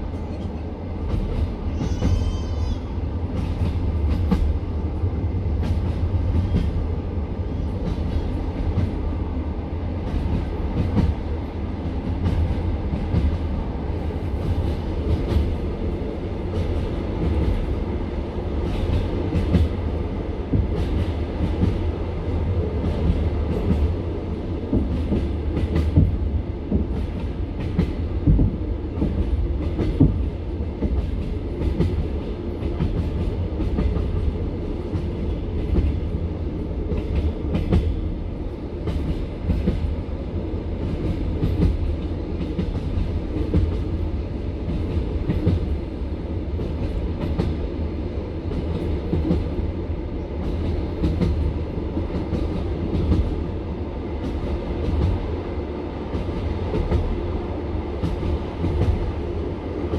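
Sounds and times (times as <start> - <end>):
train wheels clacking on rails: 0.0 - 4.8, 5.4 - 9.1, 10.0 - 47.8, 48.4 - 59.9.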